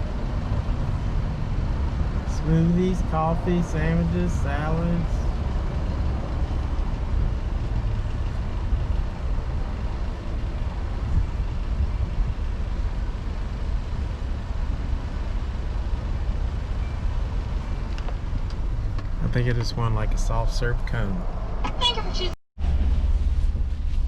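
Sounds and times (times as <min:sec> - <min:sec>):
car interior rumble: 0:00.0 - 0:24.0.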